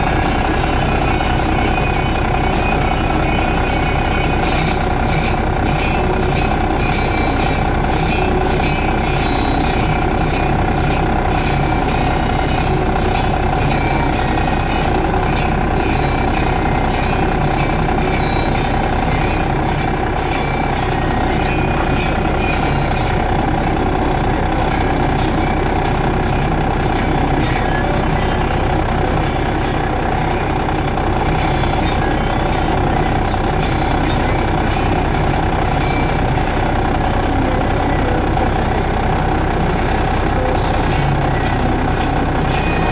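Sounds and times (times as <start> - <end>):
constant whine: 0.0 - 42.9
diesel machinery running: 0.0 - 42.9.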